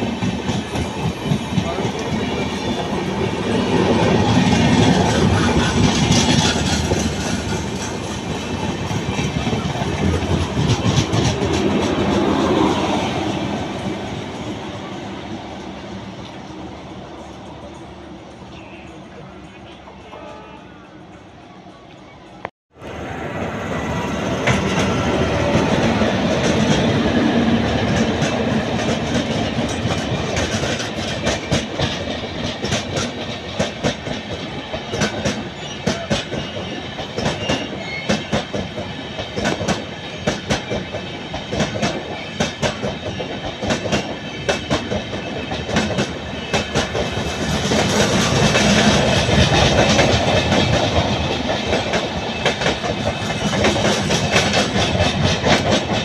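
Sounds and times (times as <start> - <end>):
train passing at speed: 0.0 - 56.0
wheels clacking over rail joints: 0.1 - 14.2, 24.4 - 56.0.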